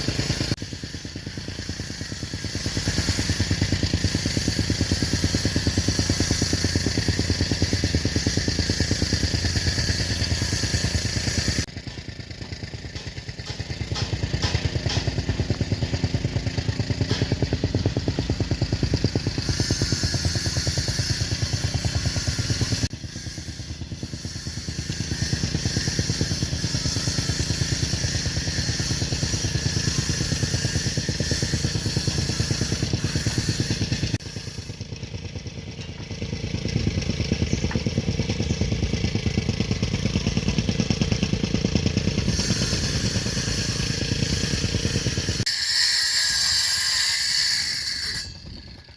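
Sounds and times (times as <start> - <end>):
heavy construction machine engine: 0.0 - 45.5.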